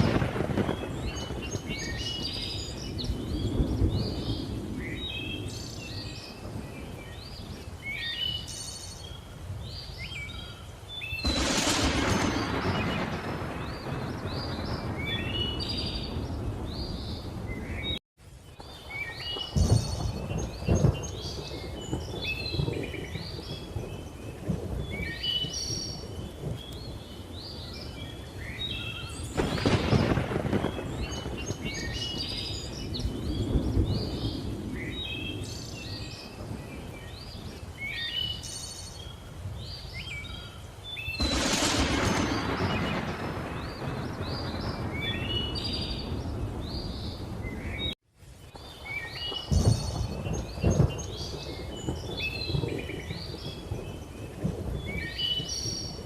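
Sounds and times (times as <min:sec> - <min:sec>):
thunder rumbling: 0:00.0 - 0:08.8, 0:11.1 - 0:18.0, 0:18.6 - 0:38.6, 0:41.1 - 0:48.0, 0:48.9 - 0:56.0
birds chirping: 0:00.0 - 0:56.0
rain: 0:00.0 - 0:56.0.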